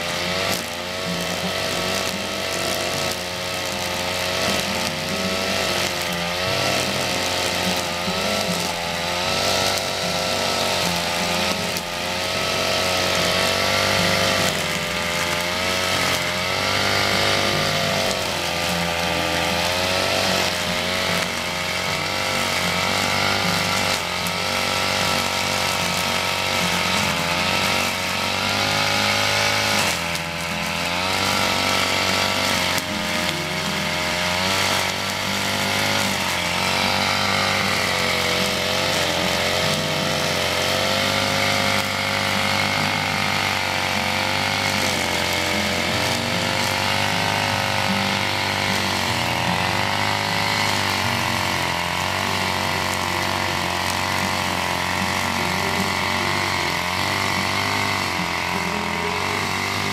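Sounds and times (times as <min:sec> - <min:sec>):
brush cutter engine running: 0:00.0 - 0:59.9.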